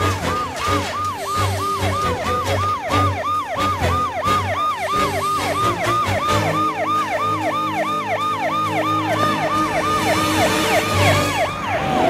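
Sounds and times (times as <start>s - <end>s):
low background music: 0.0s - 11.6s
electronic siren yelping: 0.0s - 12.0s.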